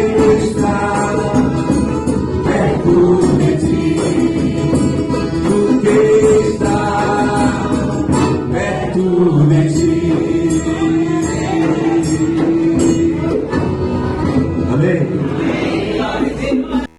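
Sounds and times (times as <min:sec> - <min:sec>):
choir singing: 0:00.0 - 0:16.9
instrumental accompaniment: 0:00.0 - 0:16.9.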